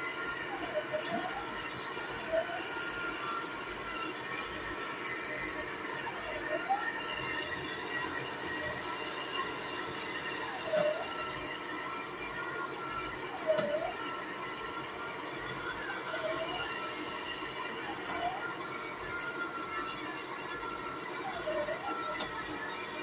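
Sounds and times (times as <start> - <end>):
piling machinery running: 0.0 - 23.0.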